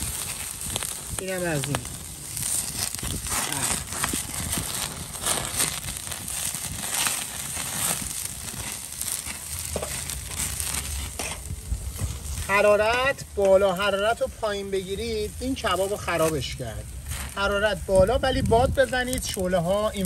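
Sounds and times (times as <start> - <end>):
meat sizzling over charcoal: 0.0 - 20.0.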